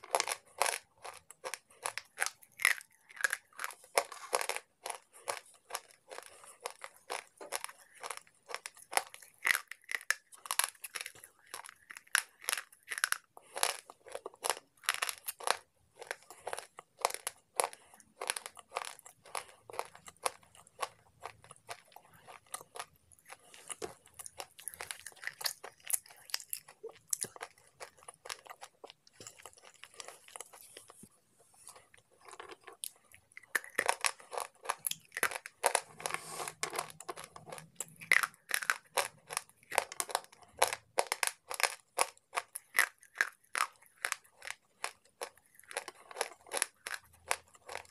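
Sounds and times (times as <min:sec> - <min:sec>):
crunching and chewing in mouth: 0:00.0 - 0:47.9.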